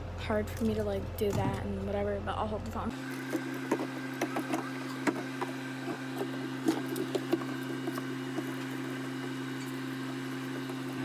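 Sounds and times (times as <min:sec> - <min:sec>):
fridge low hum: 0:00.0 - 0:11.0.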